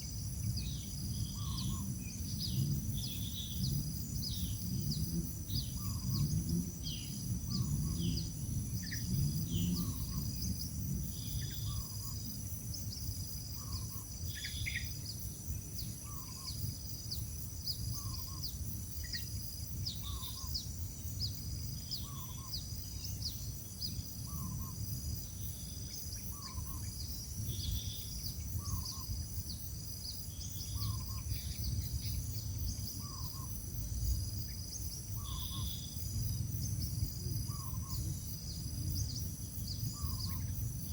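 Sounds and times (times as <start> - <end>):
bird chirping: 0.5 - 12.3, 15.8 - 29.7, 30.3 - 33.5, 34.5 - 36.0, 37.5 - 40.9.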